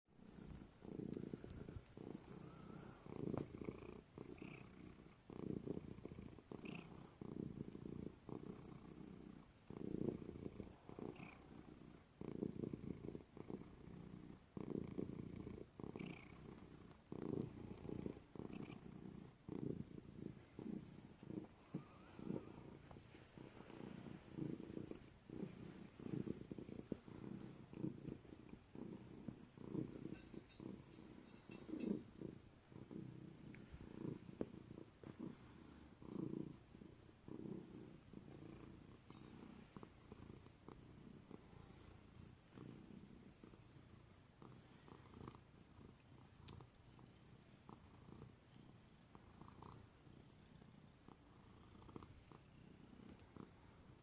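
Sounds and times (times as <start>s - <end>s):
cat purring: 0.1s - 54.0s.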